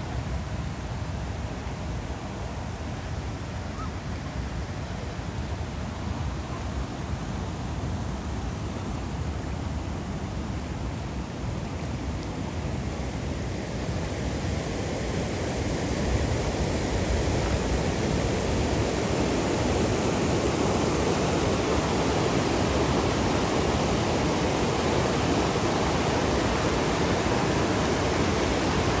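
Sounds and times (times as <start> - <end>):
waterfall roaring: 1.4 - 29.0.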